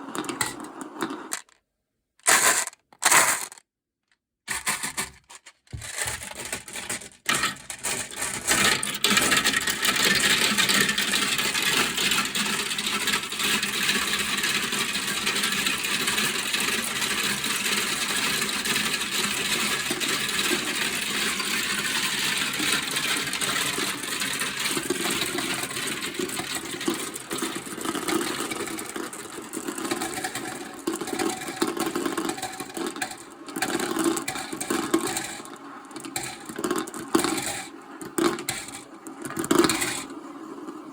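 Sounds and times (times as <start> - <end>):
marbles clattering down plastic track: 0.1 - 1.6, 2.3 - 3.6, 4.5 - 40.1.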